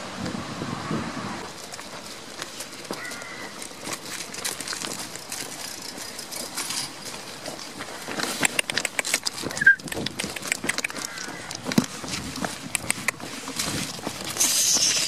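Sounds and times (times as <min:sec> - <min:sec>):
hooves clicking on asphalt: 0:01.4 - 0:15.0.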